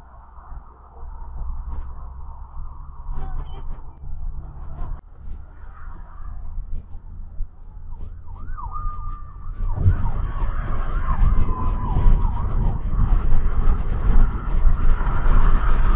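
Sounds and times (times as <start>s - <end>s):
car road and engine noise: 0.0s - 15.9s
siren sweeping up and down: 0.0s - 15.9s.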